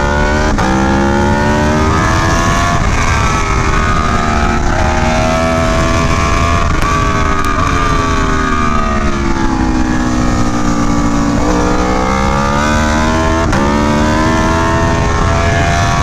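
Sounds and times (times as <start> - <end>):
motorcycle engine running hard: 0.0 - 16.0
wind rush: 0.0 - 16.0.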